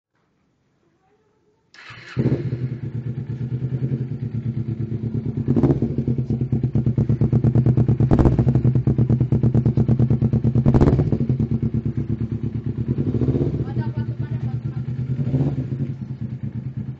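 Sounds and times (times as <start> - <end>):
motorcycle engine idling: 1.8 - 16.9
motorcycle engine revving: 1.8 - 16.9.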